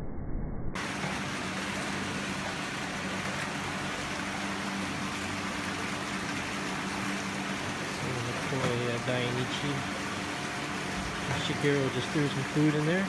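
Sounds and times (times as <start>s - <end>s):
machine humming and hissing: 0.8s - 13.0s.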